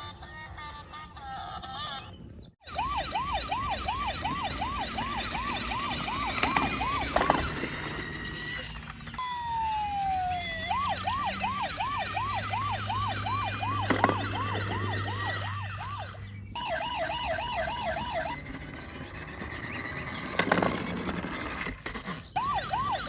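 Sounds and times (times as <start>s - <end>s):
toy police siren yelping: 1.2s - 23.0s.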